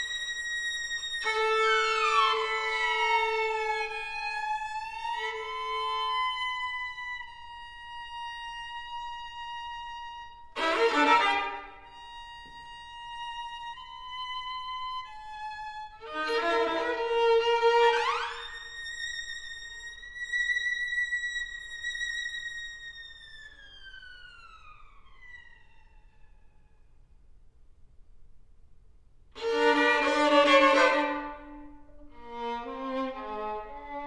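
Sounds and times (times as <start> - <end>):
solo violin: 0.0 - 26.8, 29.4 - 34.0.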